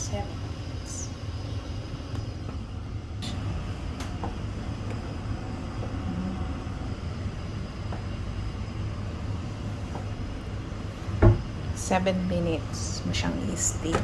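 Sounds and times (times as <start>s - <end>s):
stove rumble: 0.0s - 14.0s.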